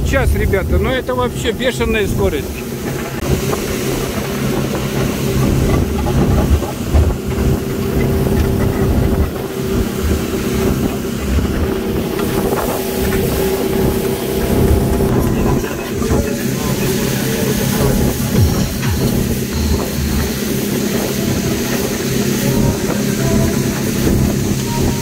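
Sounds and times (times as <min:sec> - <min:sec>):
speedboat engine running: 0:00.0 - 0:25.0
wind buffeting microphone: 0:00.0 - 0:25.0.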